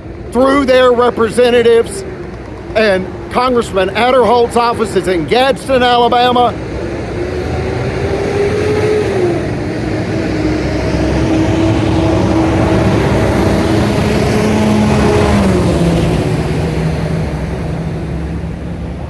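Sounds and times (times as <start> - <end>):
road vehicle engine hum: 0.0 - 19.0.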